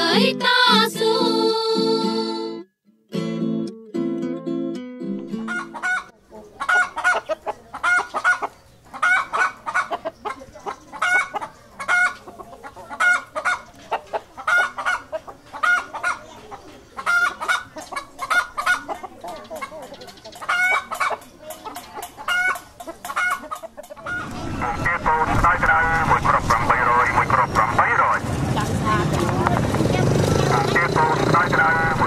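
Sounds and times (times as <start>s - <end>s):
chickens clucking: 5.4s - 32.0s.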